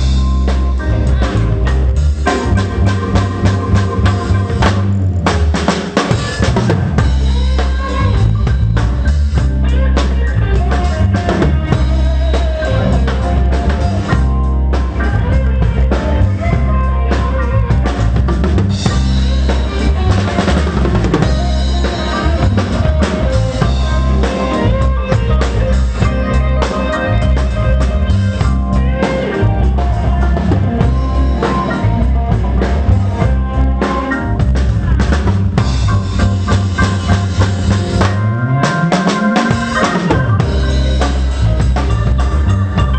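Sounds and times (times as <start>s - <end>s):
drum kit: 0.0s - 42.9s
heavy bass: 0.0s - 42.9s
live pop band playing: 0.0s - 42.9s.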